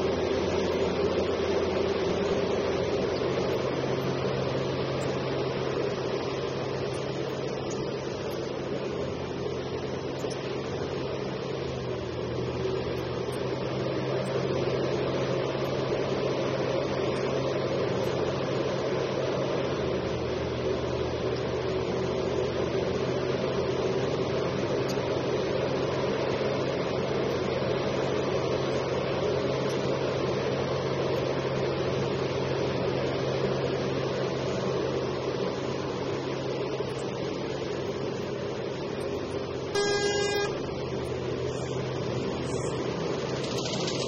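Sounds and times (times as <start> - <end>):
excavator diesel engine and hydraulics: 0.0 - 44.0.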